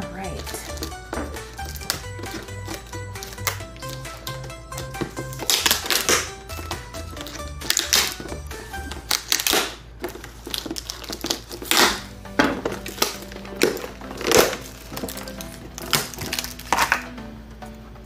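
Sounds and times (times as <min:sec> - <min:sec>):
background music with bass line: 0:00.0 - 0:09.6, 0:11.6 - 0:18.0
plastic packaging crinkling: 0:00.3 - 0:17.1.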